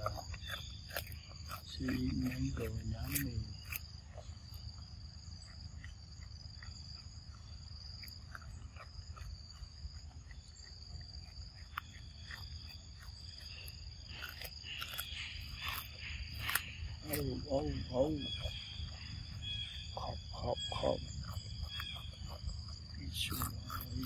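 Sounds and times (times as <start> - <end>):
high-pitched insect drone: 0.0 - 24.0
monkey chewing mango: 0.0 - 24.0.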